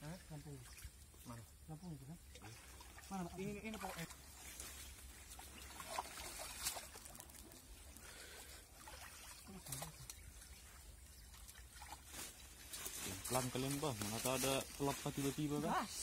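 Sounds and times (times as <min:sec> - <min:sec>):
water splashes: 0:00.0 - 0:16.0
water trickling and sloshing: 0:00.0 - 0:16.0.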